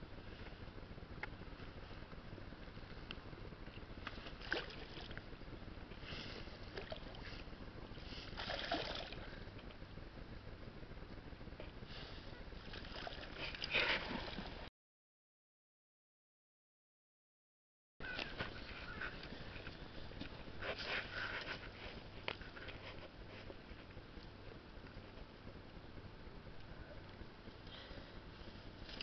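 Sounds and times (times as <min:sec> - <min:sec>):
steady low rumble: 0:00.0 - 0:14.7, 0:18.0 - 0:29.0.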